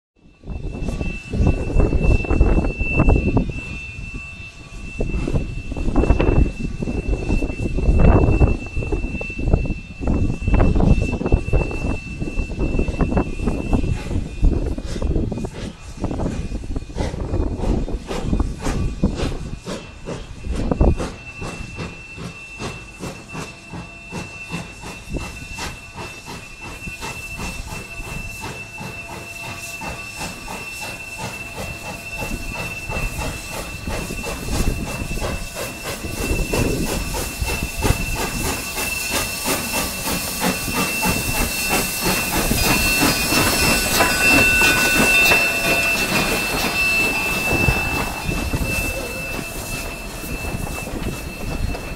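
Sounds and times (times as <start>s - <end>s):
steam locomotive exhaust chuffs: 0.2s - 51.9s
thin high whistling tone: 0.2s - 51.9s
steam hissing: 0.4s - 51.9s.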